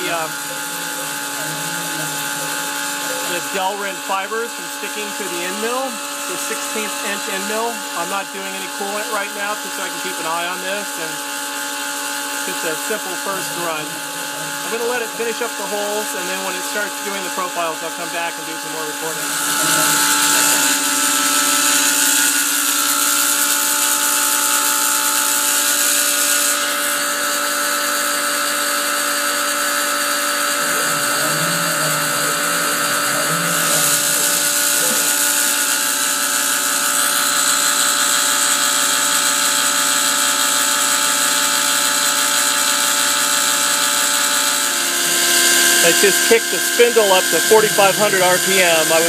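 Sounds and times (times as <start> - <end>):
milling machine spindle whine: 0.0 - 49.0.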